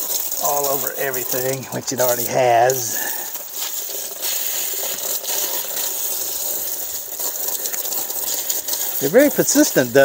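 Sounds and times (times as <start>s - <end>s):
hose spray hitting awning: 0.0s - 10.0s.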